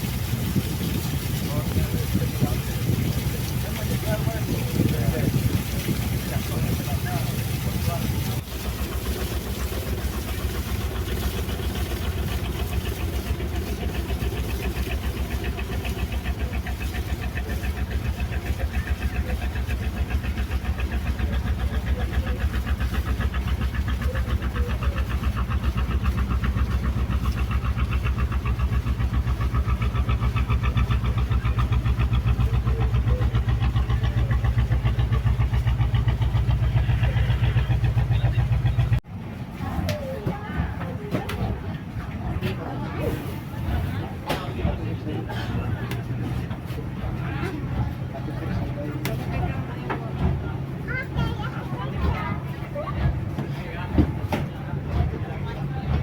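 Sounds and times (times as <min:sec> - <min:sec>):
boat engine throbbing: 0:00.0 - 0:56.0.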